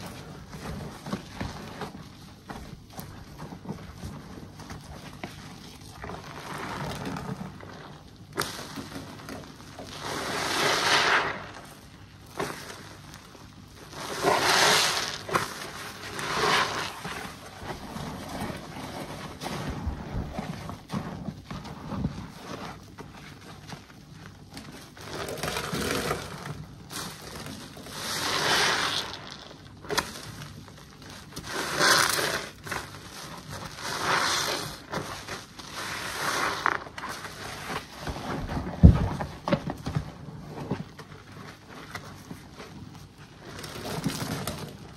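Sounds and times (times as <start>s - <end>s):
sponges squelching in soapy water: 0.0s - 44.9s.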